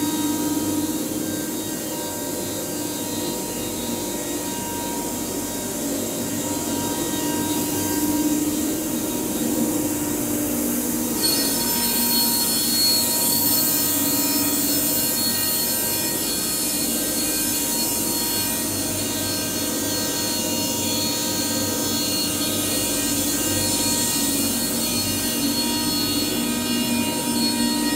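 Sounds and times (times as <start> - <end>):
router spindle whine: 0.0 - 27.9.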